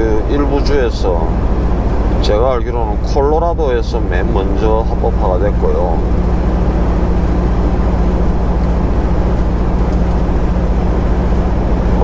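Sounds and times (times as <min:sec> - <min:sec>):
road and tyre noise: 0:00.0 - 0:12.0
truck diesel engine droning: 0:00.0 - 0:12.0.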